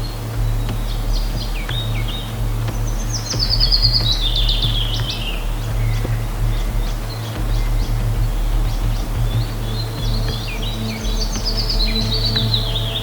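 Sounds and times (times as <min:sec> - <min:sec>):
songbird singing: 0:00.0 - 0:13.0
waterfall rumble: 0:00.0 - 0:13.0.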